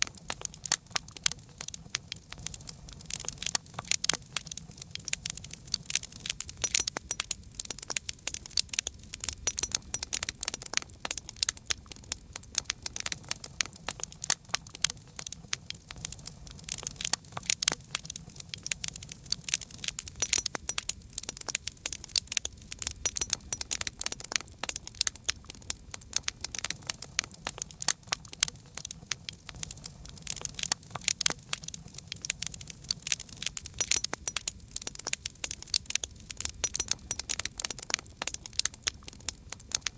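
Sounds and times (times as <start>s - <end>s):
campfire wood crackling and popping: 0.0s - 39.9s
low rumble of flames: 0.0s - 39.9s.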